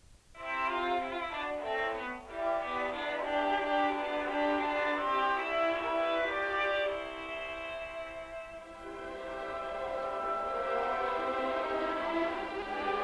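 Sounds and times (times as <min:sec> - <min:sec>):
bowed strings melody: 0:00.4 - 0:13.0.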